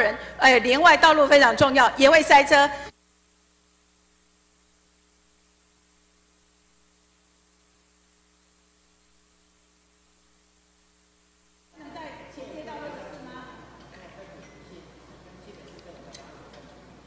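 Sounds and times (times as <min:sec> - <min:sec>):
faint electrical hum with hiss: 0:00.0 - 0:17.0.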